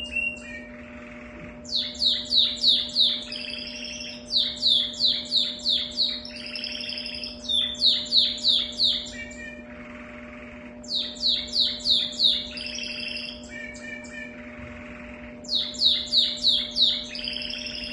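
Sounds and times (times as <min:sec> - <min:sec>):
canary singing: 0:00.0 - 0:17.9.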